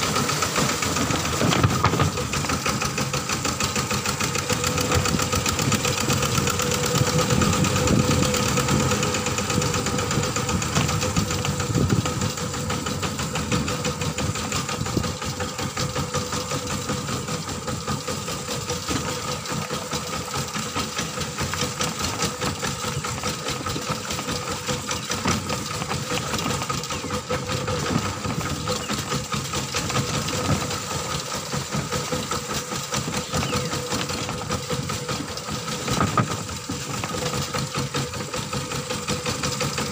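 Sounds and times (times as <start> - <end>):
diesel tractor engine knocking: 0.0 - 39.9.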